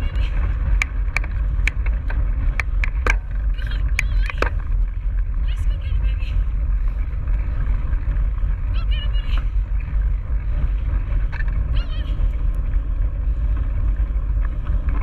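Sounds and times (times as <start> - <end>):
bike tyres rolling on dirt: 0.0 - 15.0
wind buffeting microphone: 0.0 - 15.0.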